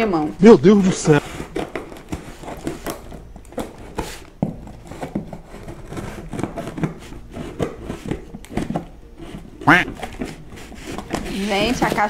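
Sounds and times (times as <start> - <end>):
scissors cutting packing tape: 1.2 - 12.0.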